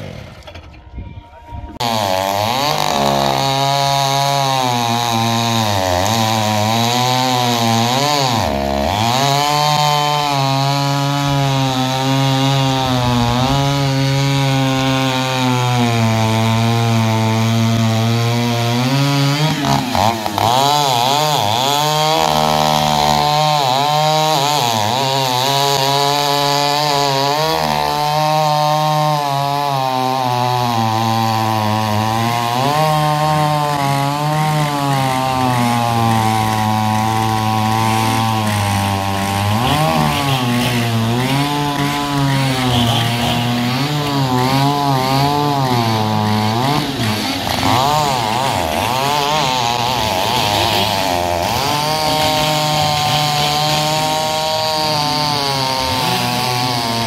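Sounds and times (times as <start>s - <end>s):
chainsaw cutting through log: 0.0s - 0.7s, 1.7s - 57.0s.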